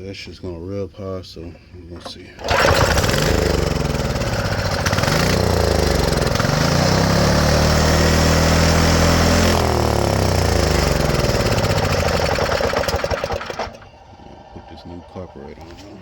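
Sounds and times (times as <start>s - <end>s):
small engine revving unevenly: 2.4s - 16.0s.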